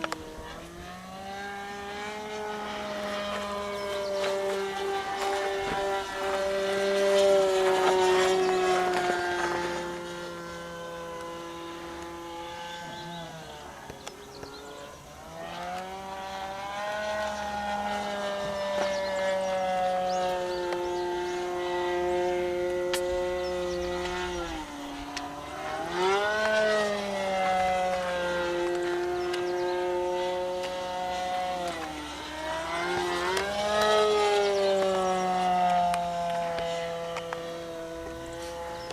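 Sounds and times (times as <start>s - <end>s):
model airplane engine whine: 0.0s - 38.9s.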